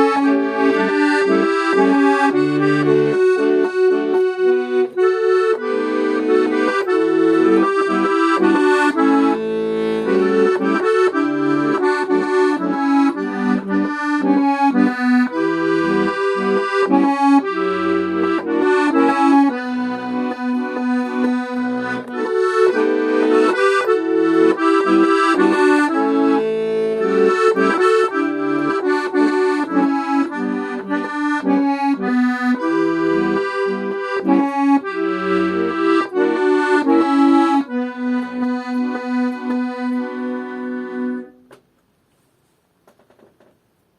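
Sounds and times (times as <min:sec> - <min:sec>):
accordion playing: 0:00.0 - 0:41.6.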